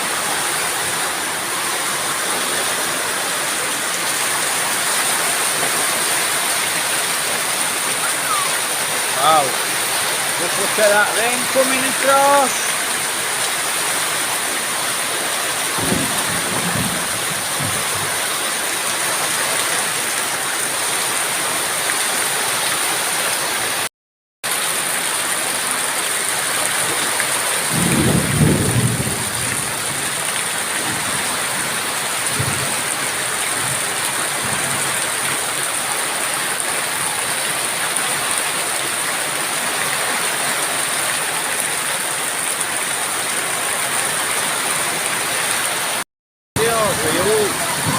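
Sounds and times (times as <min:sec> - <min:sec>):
heavy rain: 0:00.0 - 0:46.0, 0:46.6 - 0:47.9.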